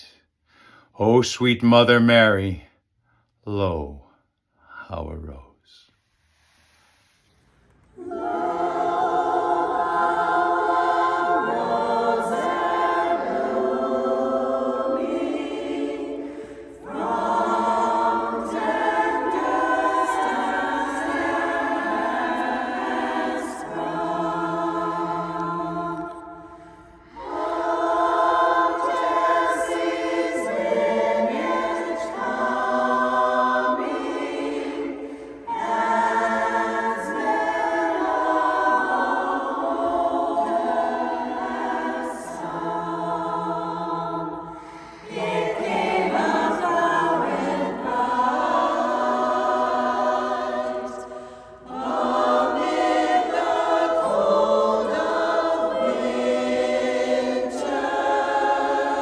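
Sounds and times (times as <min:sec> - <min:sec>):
chorus singing a cappella: 0:07.8 - 0:59.0.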